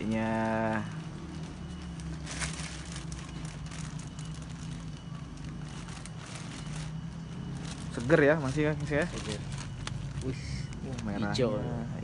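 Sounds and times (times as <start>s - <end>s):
chilies rustling: 0.0s - 11.1s
plastic bag crinkling: 0.0s - 11.1s
steady low hum: 0.0s - 12.0s.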